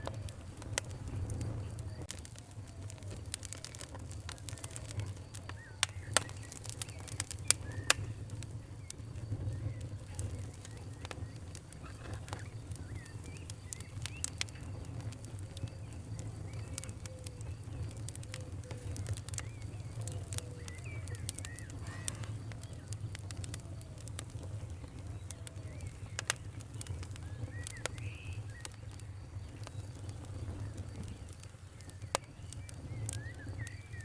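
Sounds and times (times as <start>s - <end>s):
faint chirping glides: 0.0s - 34.0s
wood fire crackling: 0.0s - 34.0s.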